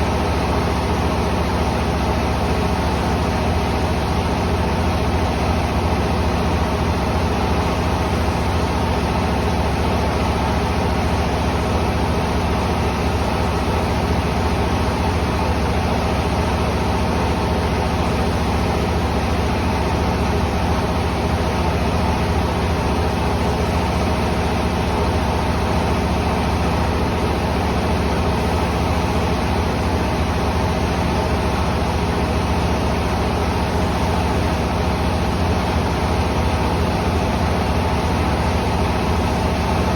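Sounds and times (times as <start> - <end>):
rice mill machinery drone: 0.0 - 39.9.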